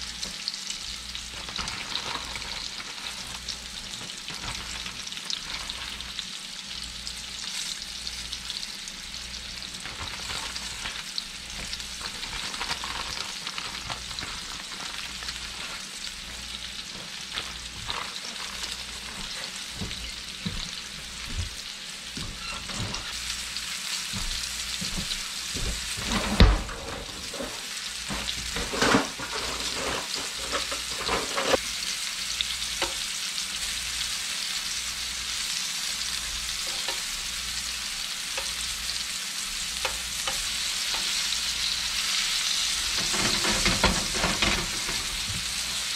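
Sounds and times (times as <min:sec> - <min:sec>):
fish sizzling in a skillet: 0:00.0 - 0:45.9.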